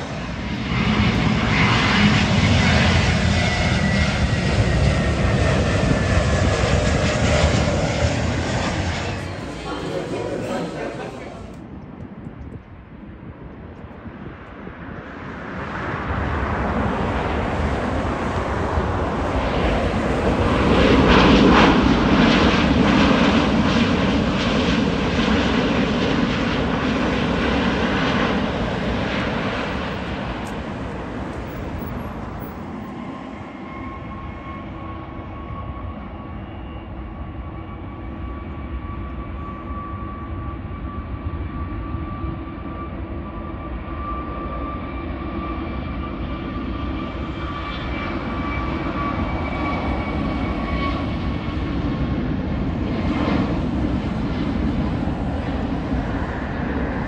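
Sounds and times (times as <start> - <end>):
jet engine roar: 0.0 - 12.0, 13.2 - 57.0
jet engine whine: 0.0 - 57.0.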